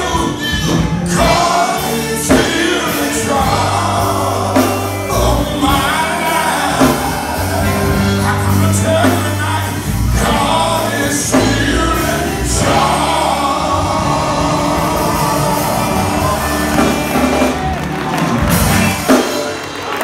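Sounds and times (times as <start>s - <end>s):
men's group singing gospel: 0.0s - 19.4s
bass guitar: 0.0s - 20.0s
drums: 0.0s - 20.0s.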